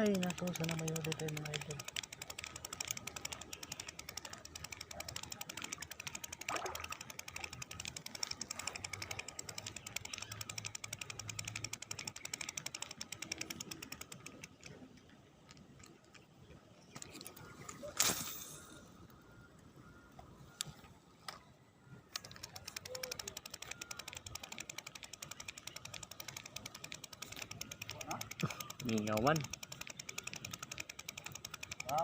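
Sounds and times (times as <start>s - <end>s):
fishing reel gears clicking: 0.0s - 16.3s, 22.1s - 32.0s.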